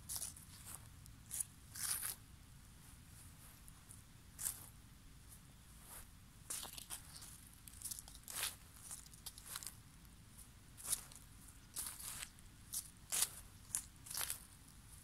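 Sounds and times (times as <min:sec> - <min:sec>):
crunching dry leaves and grass: 0:00.0 - 0:02.2, 0:02.9 - 0:15.0
faint low rumble: 0:00.0 - 0:15.0.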